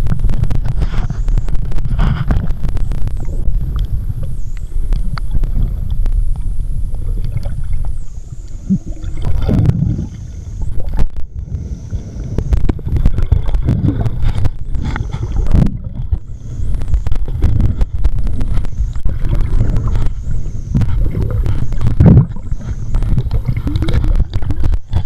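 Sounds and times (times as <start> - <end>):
faint high whine: 0.0 - 25.0
muffled underwater rumble: 0.0 - 25.0
water gurgling: 0.0 - 25.0.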